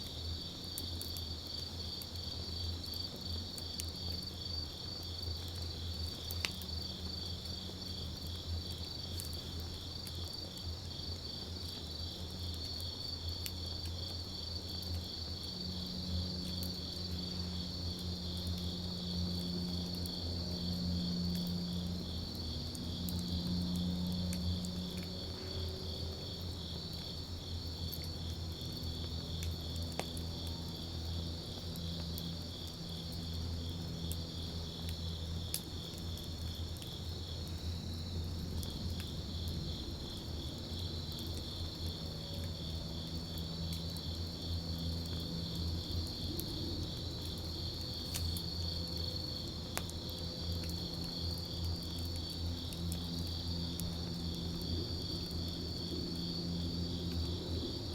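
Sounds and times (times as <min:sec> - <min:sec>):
campfire burning: 0:00.0 - 0:57.9
crickets trilling: 0:00.0 - 0:57.9
fire crackles and pops: 0:00.0 - 0:57.9.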